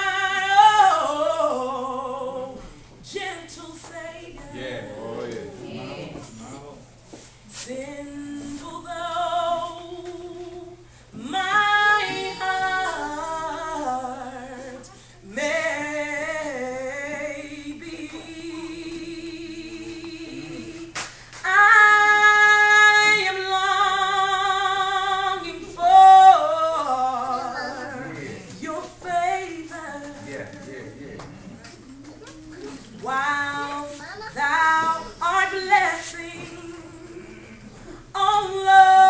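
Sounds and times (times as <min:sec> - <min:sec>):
woman singing unaccompanied: 0:00.0 - 0:06.2, 0:07.6 - 0:31.2, 0:31.9 - 0:39.0.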